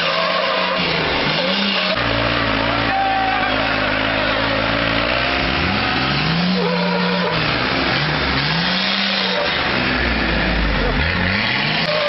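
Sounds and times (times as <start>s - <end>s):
diesel engine revving hard: 0.0s - 12.0s.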